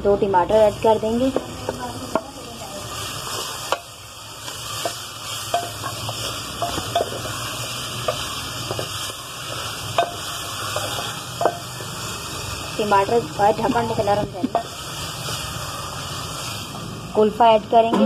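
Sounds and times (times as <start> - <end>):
tomatoes sizzling in oil: 0.0 - 18.0.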